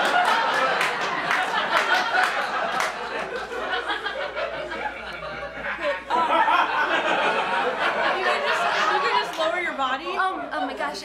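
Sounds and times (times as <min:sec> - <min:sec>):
audience laughing: 0:00.0 - 0:10.2.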